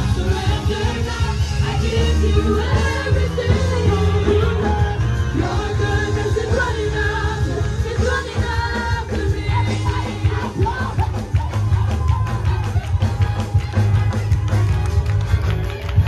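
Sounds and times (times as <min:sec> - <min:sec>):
sung melody: 0:00.0 - 0:15.7
heavy bass: 0:00.0 - 0:16.0
steady drum beat: 0:00.0 - 0:16.0.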